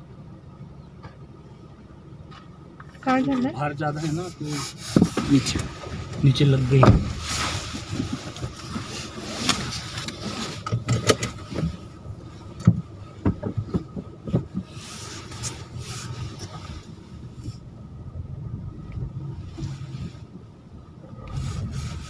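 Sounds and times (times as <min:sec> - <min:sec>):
car engine hum: 0:00.0 - 0:22.0.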